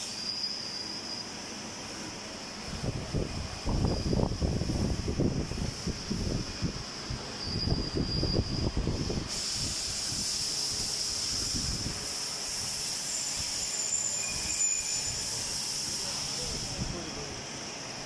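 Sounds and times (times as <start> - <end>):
high-pitched machine hiss: 0.0 - 18.0.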